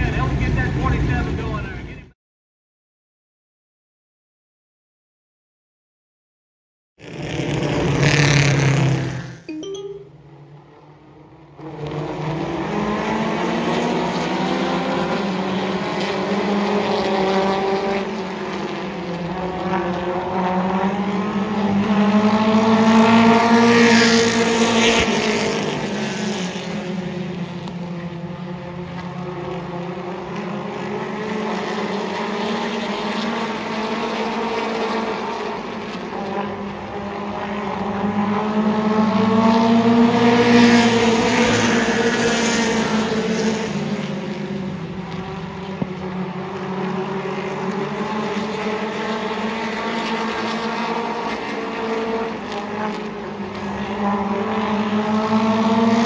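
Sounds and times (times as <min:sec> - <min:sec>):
race car engines revving: 0:07.0 - 0:09.4, 0:10.6 - 0:56.0.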